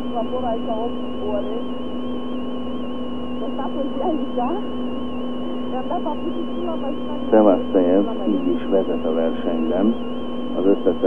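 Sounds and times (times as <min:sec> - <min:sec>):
tape hum and whine: 0:00.0 - 0:11.0.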